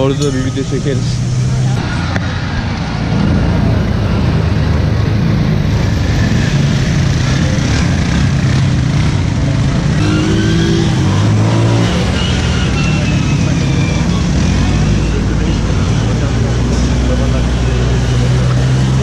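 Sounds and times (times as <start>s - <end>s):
quad bike engines driving past: 0.0s - 19.0s.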